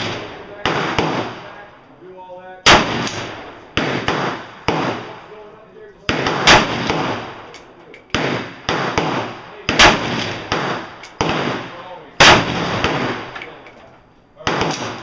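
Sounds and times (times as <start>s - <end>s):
rifle gunshots with echo: 0.0s - 1.7s, 2.6s - 13.6s, 14.4s - 15.0s.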